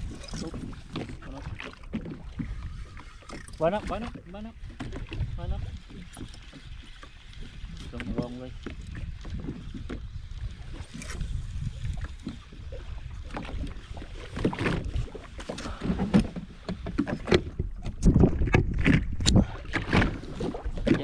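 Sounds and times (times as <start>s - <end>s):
water slapping against hull: 0.0s - 21.0s.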